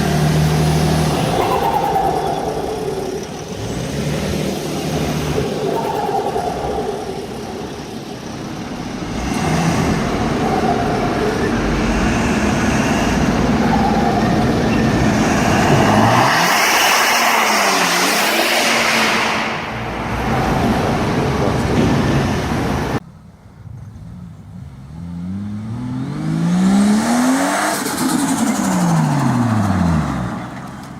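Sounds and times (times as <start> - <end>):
turbocharged car engine revving: 0.0 - 23.0, 24.0 - 30.6.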